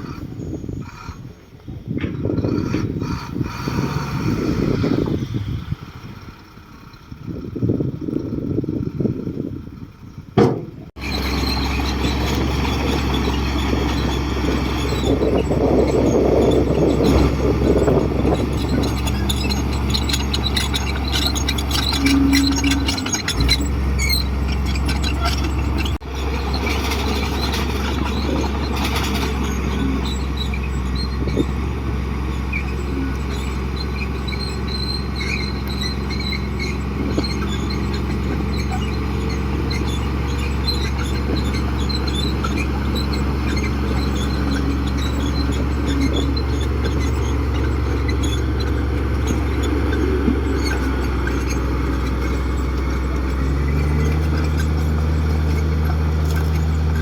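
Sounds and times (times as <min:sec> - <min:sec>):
bulldozer diesel engine running: 0:00.0 - 0:57.0
squeaking clicking tracks: 0:10.4 - 0:57.0.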